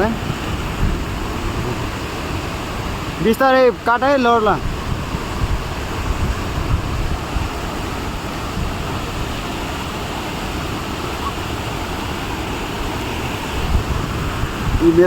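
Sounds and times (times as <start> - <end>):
waterfall rushing: 0.0 - 15.0
wind rumble on microphone: 0.0 - 15.0.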